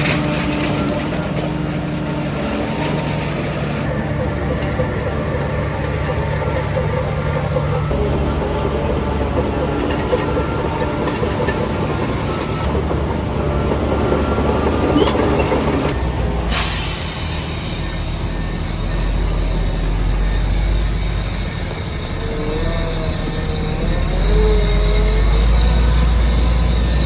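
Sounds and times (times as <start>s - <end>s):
diesel engine rumbling: 0.0s - 27.0s
machinery squeaks and clatter: 0.0s - 27.0s.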